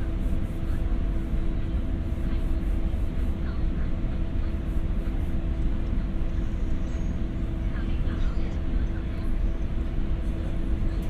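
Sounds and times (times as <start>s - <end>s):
low train rumble: 0.0s - 11.0s
mechanical hum: 0.0s - 11.0s.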